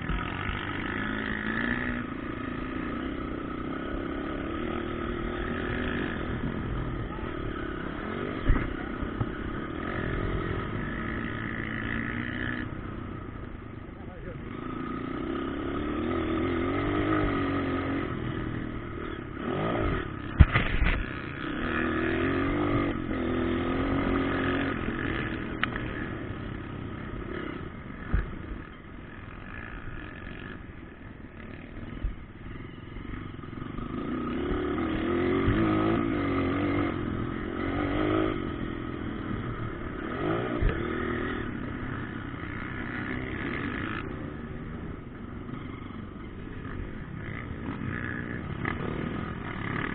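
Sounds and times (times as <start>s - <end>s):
motocross bikes revving: 0.0s - 49.9s.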